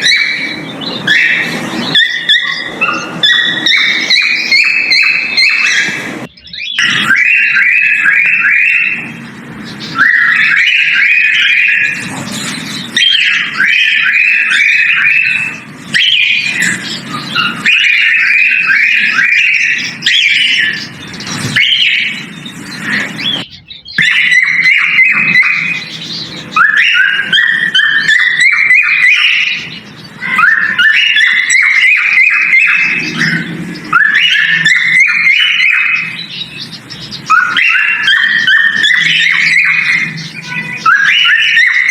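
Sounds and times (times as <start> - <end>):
cockatiel whistling: 0.0 - 41.9.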